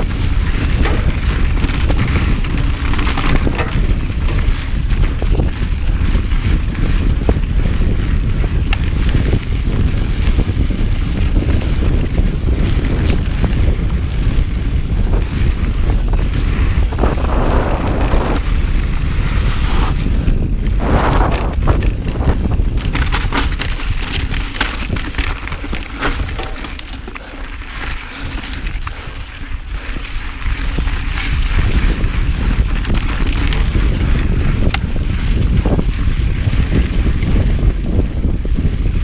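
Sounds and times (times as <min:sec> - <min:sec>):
bike clicks and rattles: 0:00.0 - 0:39.0
bike tyres on dirt: 0:00.0 - 0:39.0
wind rumble on microphone: 0:00.0 - 0:39.0.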